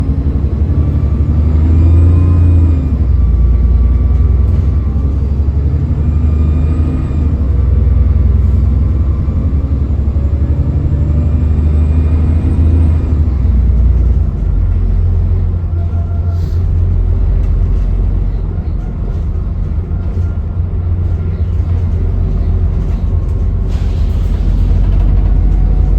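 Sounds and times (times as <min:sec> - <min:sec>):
bus engine rumbling: 0:00.0 - 0:25.9.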